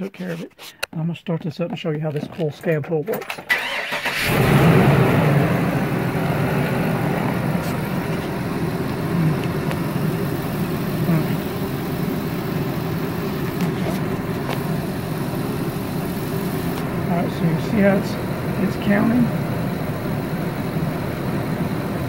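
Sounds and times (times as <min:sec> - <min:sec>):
engine idling: 0:03.5 - 0:22.0.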